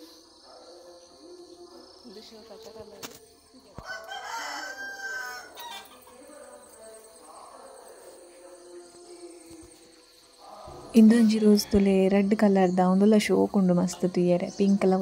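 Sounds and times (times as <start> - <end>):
faint steady background tones: 0.0 - 15.0.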